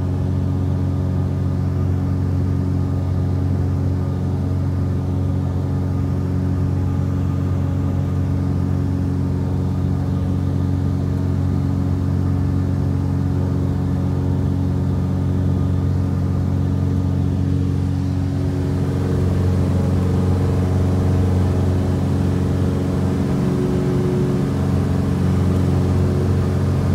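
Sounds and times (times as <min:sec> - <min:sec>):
propeller plane engine drone: 0:00.0 - 0:26.9.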